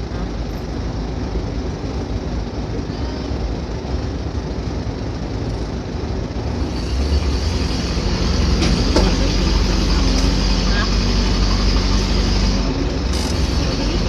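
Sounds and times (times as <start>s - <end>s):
ferry engine rumbling: 0.0s - 14.0s.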